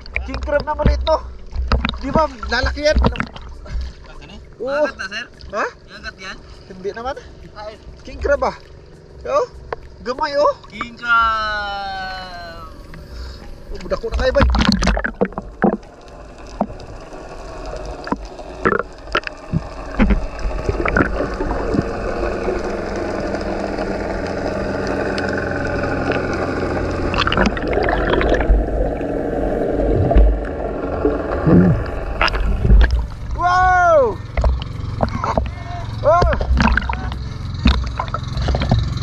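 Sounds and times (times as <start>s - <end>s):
droning tone: 0.0s - 39.0s
underwater rushing hum: 0.0s - 39.0s.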